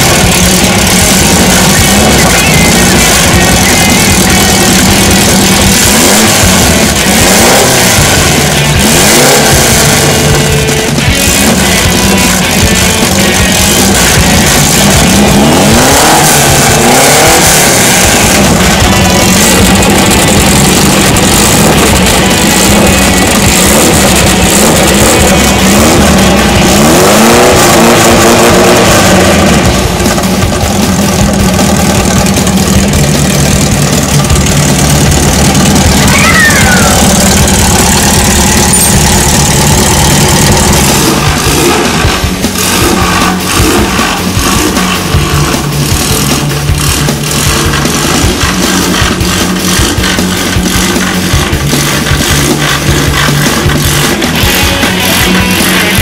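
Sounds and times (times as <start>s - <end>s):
car engine revving: 0.0s - 56.0s
rock music: 0.0s - 56.0s.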